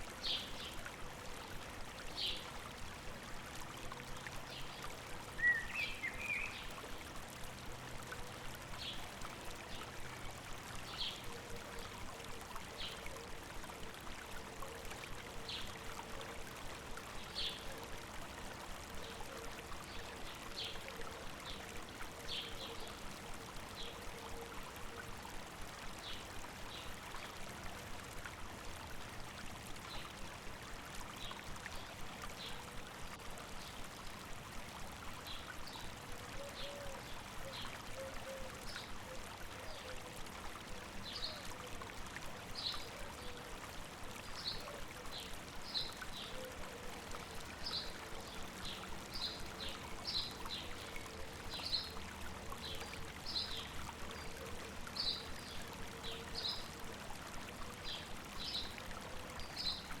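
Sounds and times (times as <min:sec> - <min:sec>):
river water over rocks: 0:00.0 - 1:00.0.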